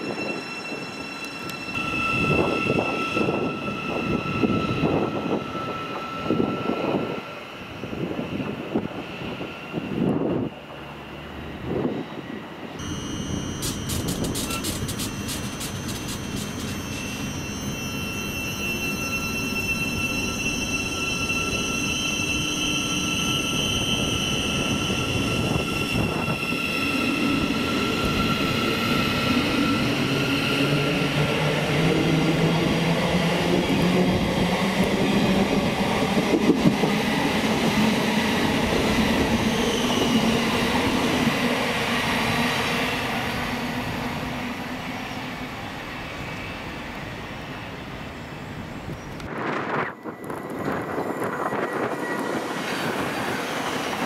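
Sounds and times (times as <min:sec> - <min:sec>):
train passing: 0:00.0 - 0:54.0.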